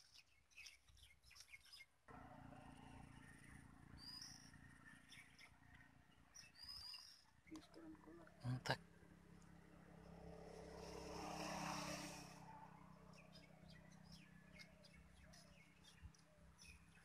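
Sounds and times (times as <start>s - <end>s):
small birds chirping: 0.0s - 17.0s
distant engine hum: 2.1s - 17.0s.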